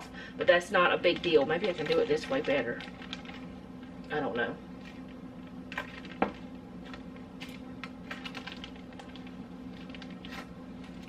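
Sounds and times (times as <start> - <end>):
steady low hum: 0.0 - 11.0
plastic bag crinkling: 1.0 - 4.1, 4.7 - 11.0.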